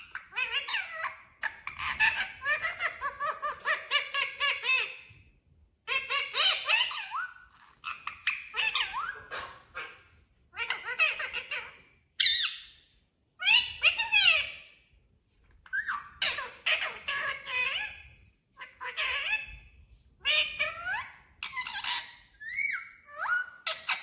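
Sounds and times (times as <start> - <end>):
parrot calling and chattering: 0.0 - 5.2, 5.8 - 14.8, 15.6 - 24.0.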